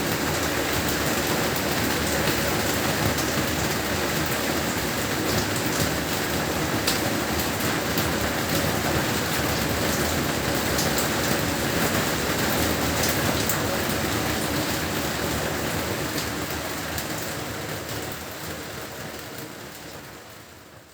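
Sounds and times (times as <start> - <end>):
heavy rain falling: 0.0 - 20.3.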